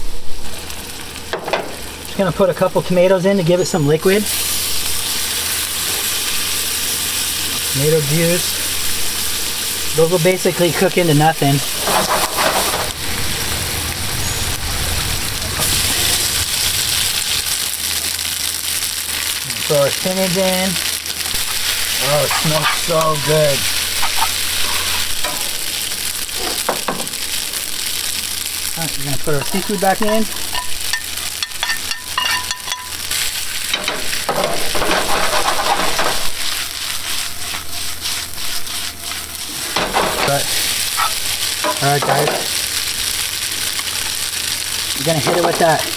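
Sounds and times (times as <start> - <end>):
food sizzling in a frying pan: 0.0 - 45.9.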